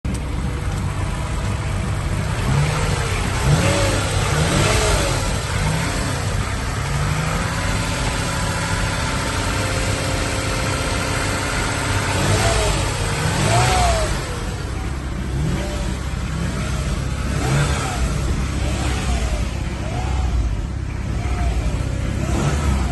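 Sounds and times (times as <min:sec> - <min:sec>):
minivan engine idling and revving: 0:00.0 - 0:22.9.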